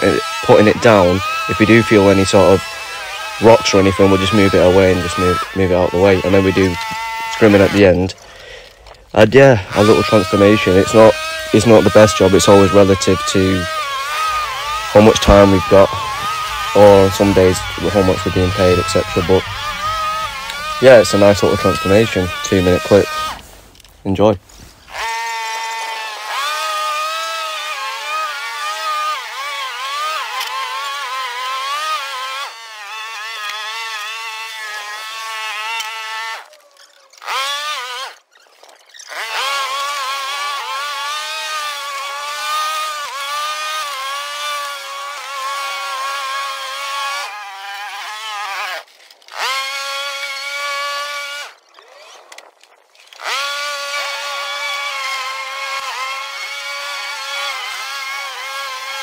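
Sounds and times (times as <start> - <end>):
lawn mower cutting grass: 0.0 - 59.0.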